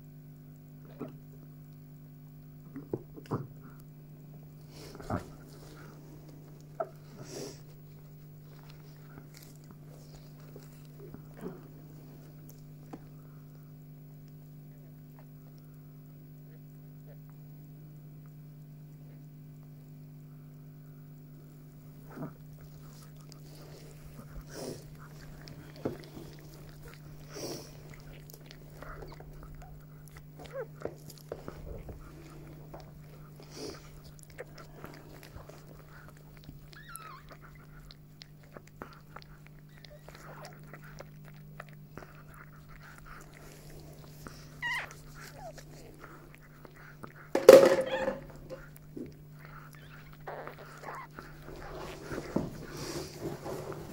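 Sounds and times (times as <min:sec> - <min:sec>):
steady low hum: 0:00.0 - 0:53.9
dog licking and chewing: 0:04.6 - 0:15.8, 0:21.8 - 0:53.9.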